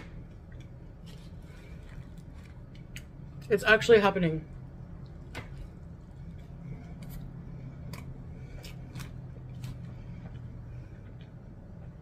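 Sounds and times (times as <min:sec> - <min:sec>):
person chewing food: 0:00.0 - 0:03.5, 0:04.8 - 0:12.0
steady low hum: 0:00.0 - 0:12.0.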